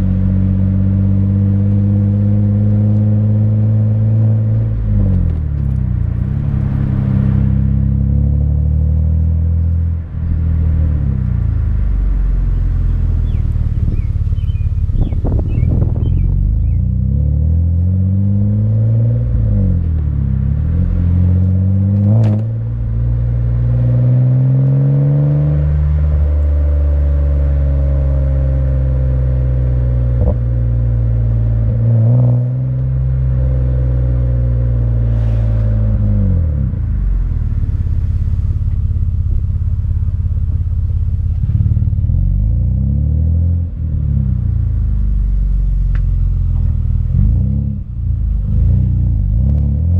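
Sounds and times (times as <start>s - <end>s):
car exhaust accelerating: 0.0s - 49.9s.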